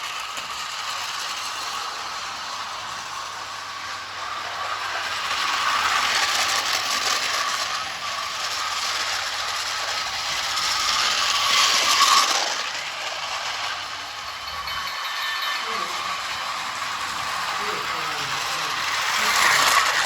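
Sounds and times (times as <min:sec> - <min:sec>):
toy train motor whirring: 0:00.0 - 0:20.0
toy train wheels clattering: 0:00.0 - 0:20.0.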